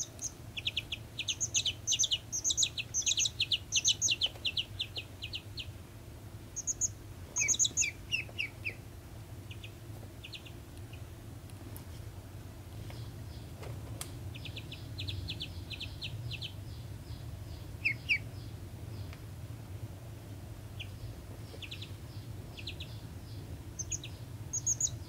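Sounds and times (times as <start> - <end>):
baby chick peeping: 0.0 - 19.4, 20.3 - 25.0
low steady hum: 0.0 - 25.0.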